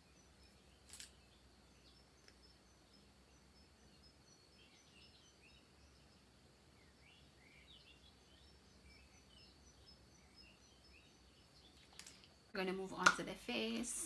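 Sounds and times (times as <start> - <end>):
faint bird chirps: 0.0 - 12.5.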